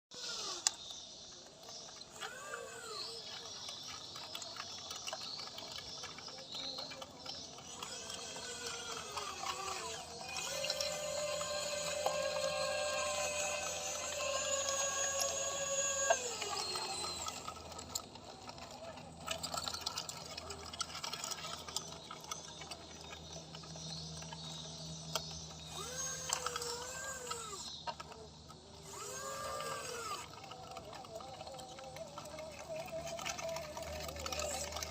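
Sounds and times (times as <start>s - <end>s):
clicking and rattling: 0.1s - 34.9s
small electric motors whining: 0.1s - 34.9s.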